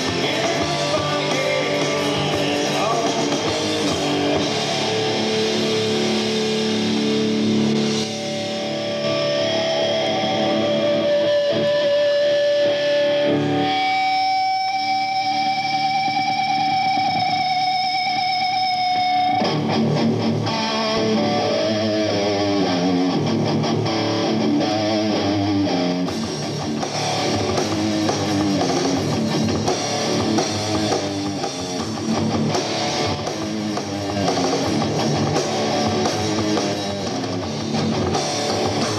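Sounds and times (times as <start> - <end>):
electric guitar with effects: 0.0 - 38.9
rock band playing: 0.0 - 38.9.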